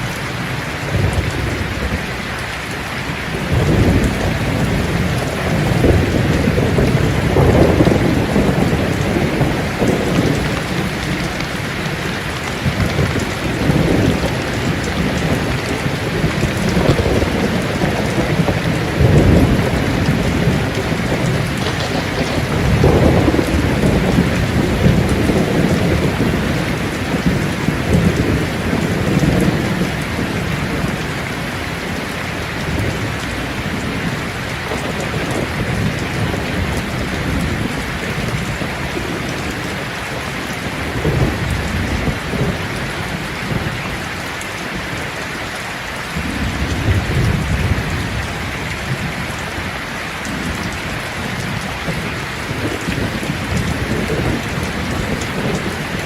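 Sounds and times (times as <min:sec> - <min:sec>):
rolling thunder: 0:00.0 - 0:43.8, 0:46.1 - 0:56.0
heavy rain: 0:00.0 - 0:56.0.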